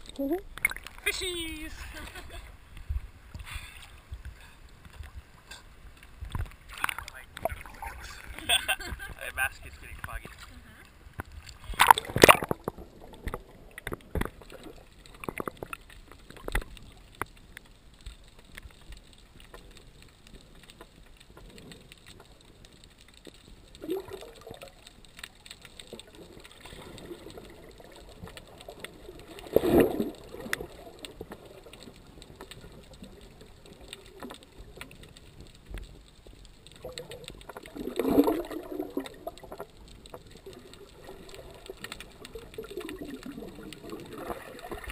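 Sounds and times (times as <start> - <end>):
rushes of water and bubbles: 0.0 - 44.9
water splashing against camera: 0.0 - 44.9.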